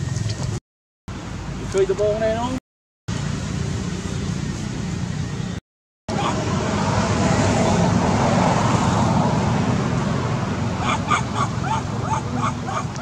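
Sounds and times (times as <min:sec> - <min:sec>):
outdoor rushing background noise: 0:00.0 - 0:13.0.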